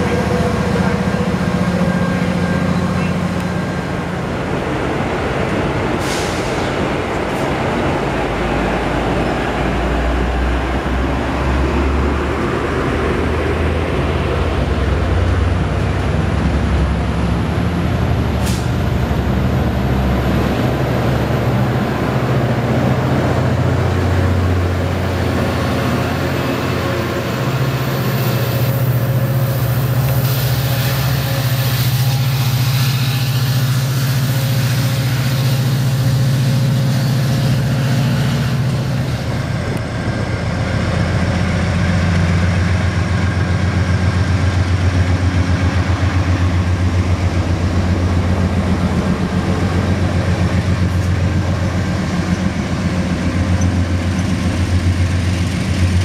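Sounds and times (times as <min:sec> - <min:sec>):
diesel train rumbling: 0:00.0 - 0:56.0.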